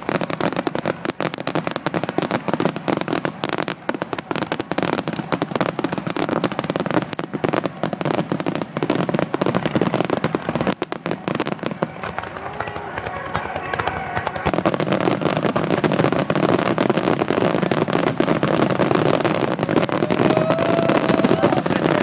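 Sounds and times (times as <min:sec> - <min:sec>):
crackling fireworks stars: 0:00.0 - 0:22.0
fireworks bursting: 0:00.0 - 0:22.0.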